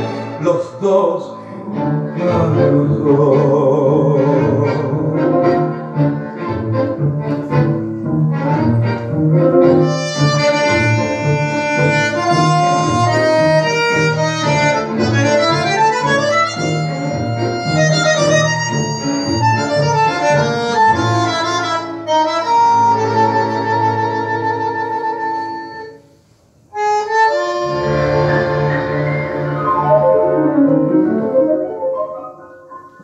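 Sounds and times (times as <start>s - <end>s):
tango orchestra music: 0.0s - 33.0s.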